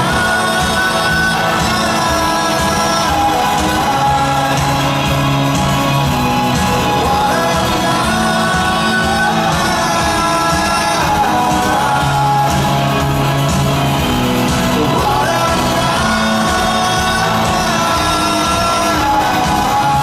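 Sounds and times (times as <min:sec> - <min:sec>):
live rock band: 0:00.0 - 0:20.0
man singing: 0:00.0 - 0:20.0.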